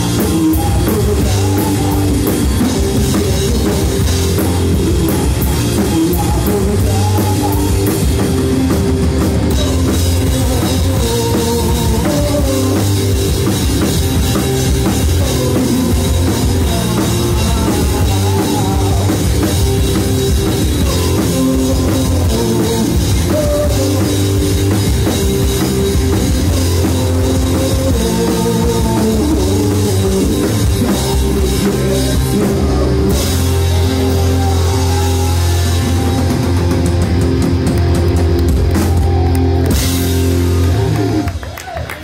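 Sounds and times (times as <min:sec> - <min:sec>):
punk rock band playing: 0:00.0 - 0:42.0.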